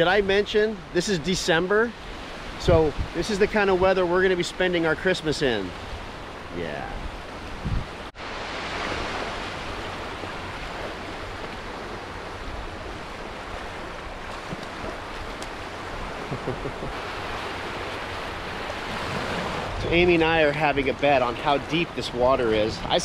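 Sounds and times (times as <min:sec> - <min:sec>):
surf washing onto beach: 0:00.0 - 0:23.0.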